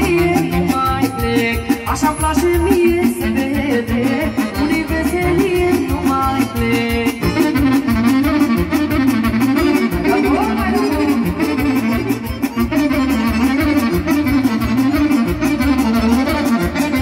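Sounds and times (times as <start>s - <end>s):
band playing fast folk dance music: 0.0s - 17.0s
reed instrument melody: 3.2s - 17.0s.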